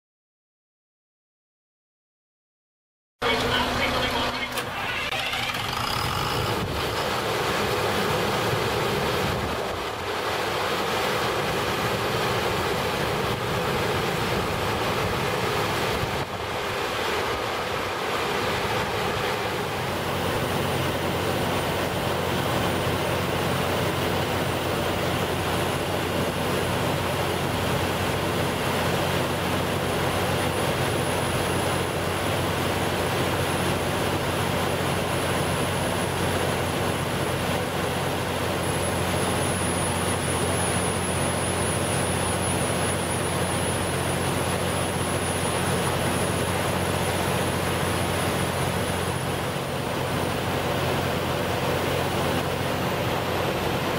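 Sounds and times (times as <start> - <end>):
diesel generator humming: 3.2 - 53.9.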